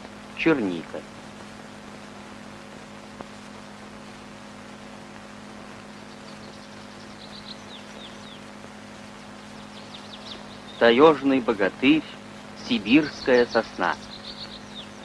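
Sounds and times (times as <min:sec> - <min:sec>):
film soundtrack hiss and hum: 0:00.0 - 0:15.0.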